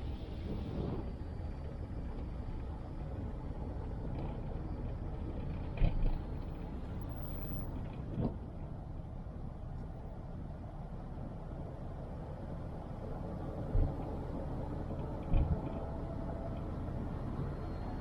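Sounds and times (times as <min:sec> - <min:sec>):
car tyres and engine rumble: 0:00.0 - 0:18.0.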